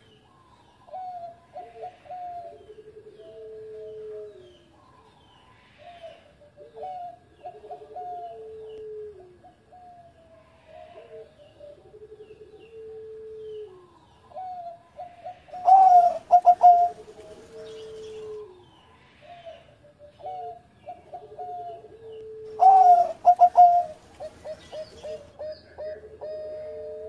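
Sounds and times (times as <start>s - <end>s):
dove cooing: 0.8s - 5.0s, 5.8s - 27.0s.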